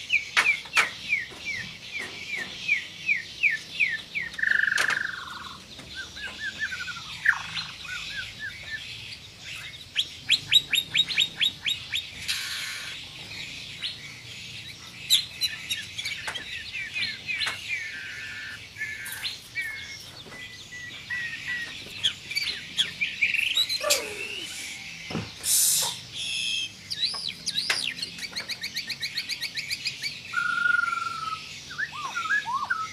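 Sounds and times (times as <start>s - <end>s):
songbird whistling song: 0.0s - 32.9s.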